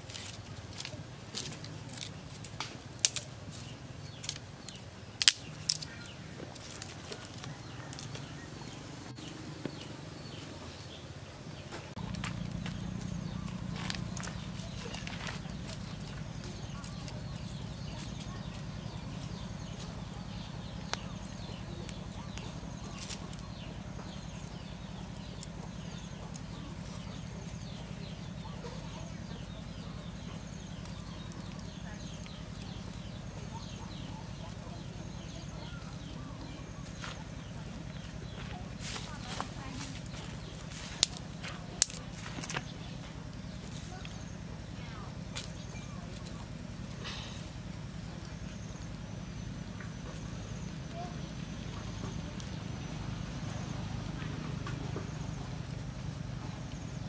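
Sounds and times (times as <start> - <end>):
twigs clicking and snapping: 0.0 - 8.8, 12.0 - 57.0
birds chirping: 0.0 - 57.0
low steady hum: 0.0 - 57.0.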